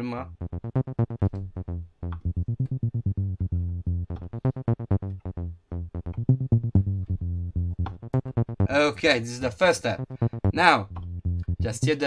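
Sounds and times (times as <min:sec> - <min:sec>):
synth acid bassline: 0:00.1 - 0:12.0.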